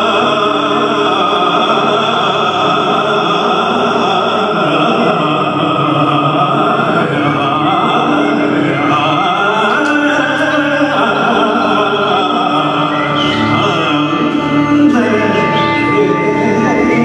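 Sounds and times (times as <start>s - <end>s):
bowed violin: 0.0s - 17.0s
man singing: 0.0s - 17.0s.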